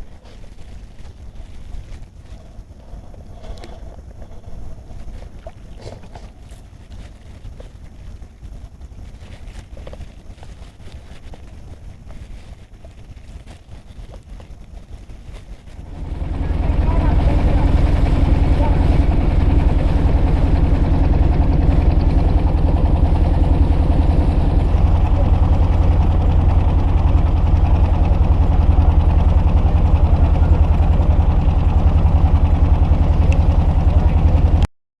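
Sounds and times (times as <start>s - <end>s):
small engine running: 5.8s - 34.7s.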